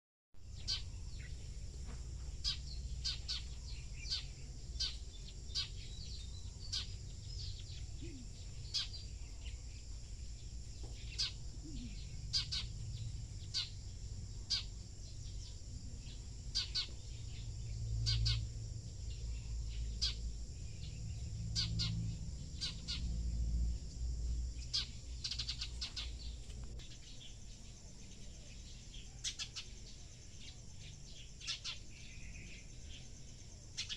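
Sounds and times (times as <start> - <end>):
small birds chirping: 0.4 - 33.9.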